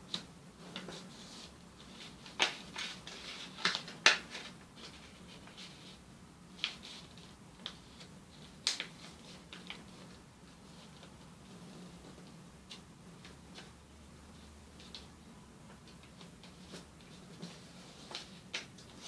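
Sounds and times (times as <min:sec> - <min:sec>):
paper crackling as it is folded: 0:00.0 - 0:13.7, 0:15.7 - 0:19.0.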